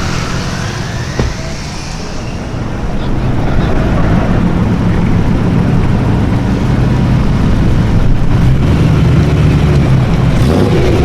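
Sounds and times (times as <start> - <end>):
car engine running loudly: 0.0 - 11.0.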